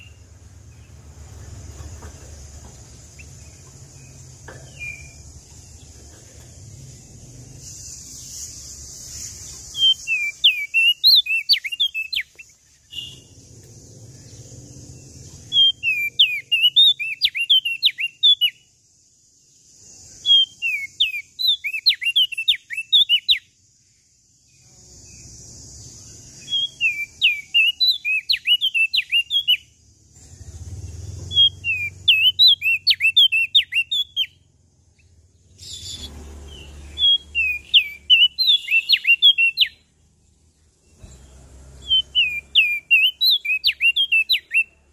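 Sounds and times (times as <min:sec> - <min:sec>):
songbird chirping: 0:00.0 - 0:44.9.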